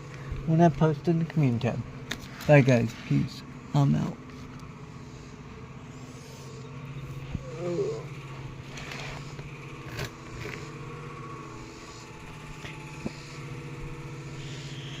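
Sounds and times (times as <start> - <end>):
low mechanical motor hum: 0.0 - 15.0.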